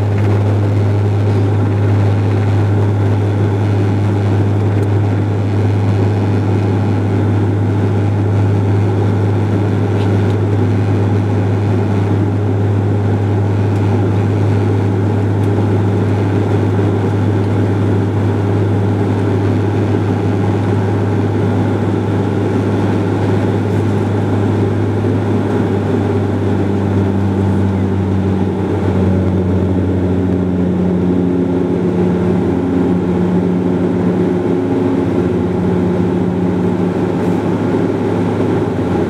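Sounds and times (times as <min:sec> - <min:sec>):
engine and airflow rush: 0:00.0 - 0:39.0
propeller drone in cabin: 0:00.0 - 0:39.0.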